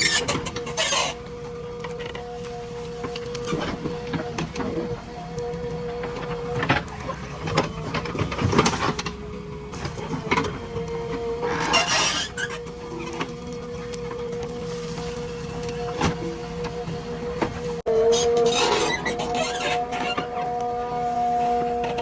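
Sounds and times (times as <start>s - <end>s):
backhoe loader engine whine: 0.0s - 22.0s.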